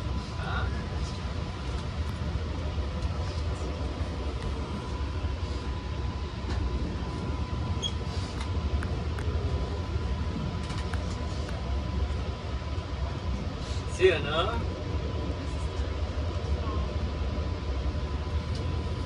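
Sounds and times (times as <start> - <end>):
train interior low rumble: 0.0 - 19.0.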